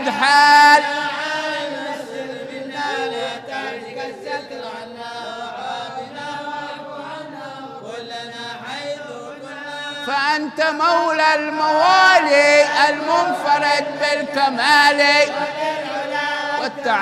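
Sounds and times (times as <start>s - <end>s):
men chanting devotional song: 0.0s - 17.0s.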